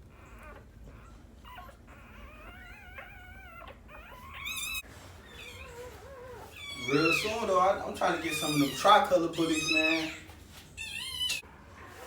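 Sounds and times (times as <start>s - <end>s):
puppy whimpering: 0.0s - 12.0s.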